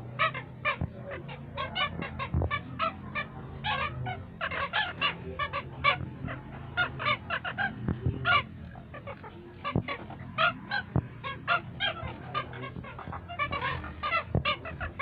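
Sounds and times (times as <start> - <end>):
birds yapping calls: 0.0 - 15.0.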